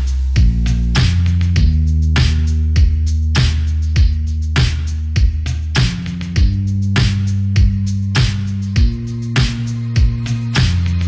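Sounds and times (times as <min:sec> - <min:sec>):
sustained bass notes: 0:00.0 - 0:11.0.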